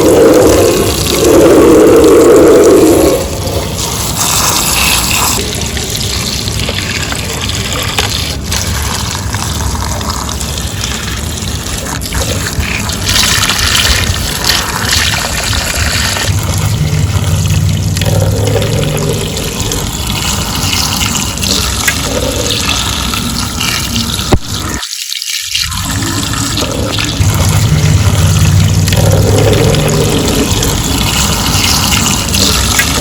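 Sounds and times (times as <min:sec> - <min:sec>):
water splashing on toys: 0:00.0 - 0:33.0.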